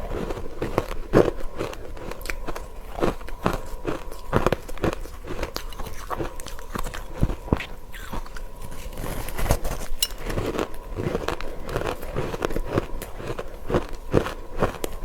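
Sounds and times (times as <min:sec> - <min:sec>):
person chewing crunchy ice: 0:00.0 - 0:15.0.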